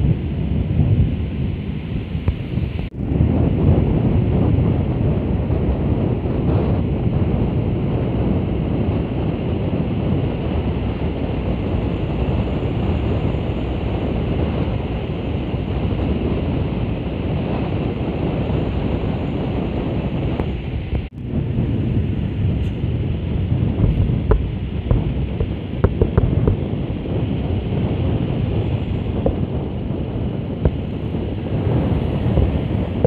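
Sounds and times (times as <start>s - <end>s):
road and traffic rumble: 0.0s - 33.0s
wind buffeting microphone: 0.0s - 33.0s.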